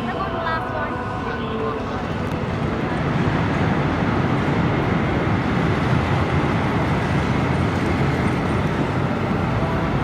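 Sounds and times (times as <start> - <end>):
amusement park rumbling: 0.0 - 10.0.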